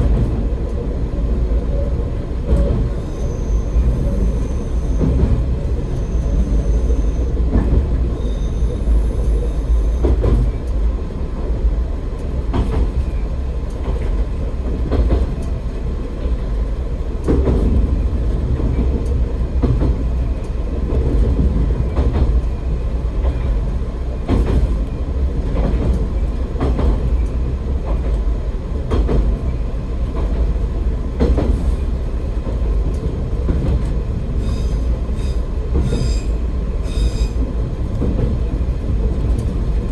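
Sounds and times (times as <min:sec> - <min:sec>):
railcar rumbling: 0:00.0 - 0:39.9.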